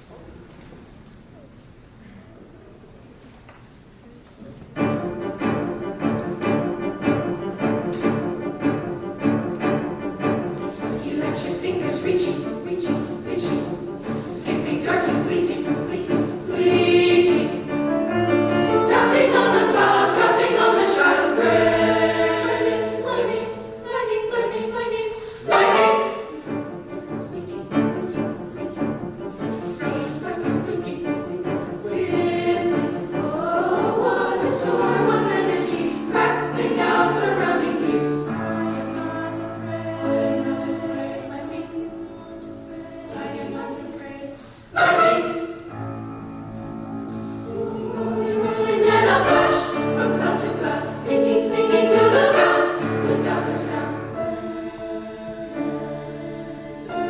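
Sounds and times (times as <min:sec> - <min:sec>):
piano accompaniment: 0:04.7 - 0:57.0
mixed choir singing in harmony: 0:04.8 - 0:57.0.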